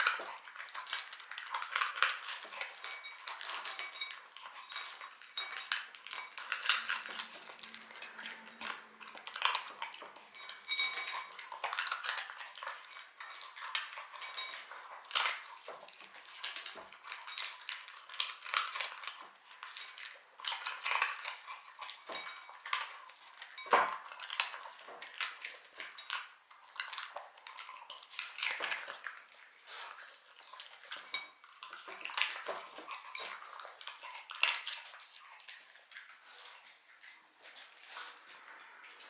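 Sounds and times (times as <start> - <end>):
dog crunching treats: 0.0 - 39.0.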